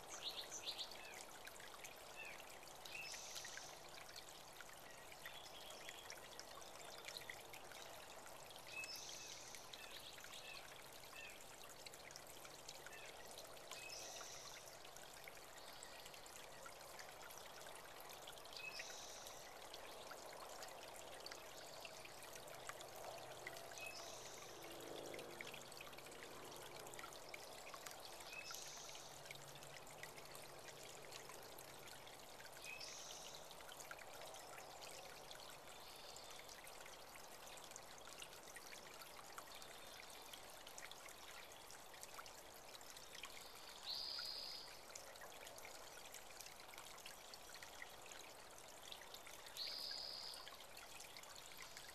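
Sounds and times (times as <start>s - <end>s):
water trickling in a creek: 0.0s - 51.9s.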